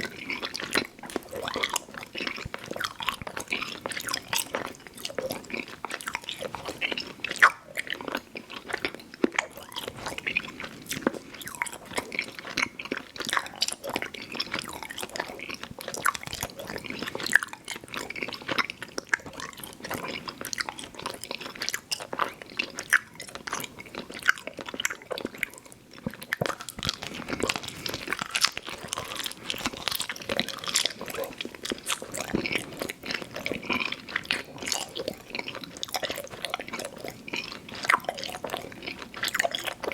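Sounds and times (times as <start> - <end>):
sticky chewing and smacking: 0.0 - 39.9.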